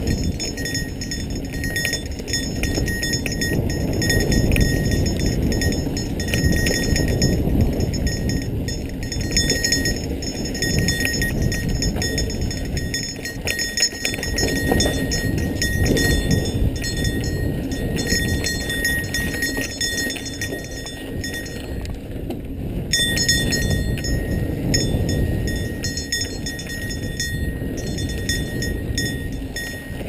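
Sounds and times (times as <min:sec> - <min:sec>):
bike rattling over bumps: 0:00.0 - 0:30.0
bike tyres rumbling on dirt: 0:00.0 - 0:30.0.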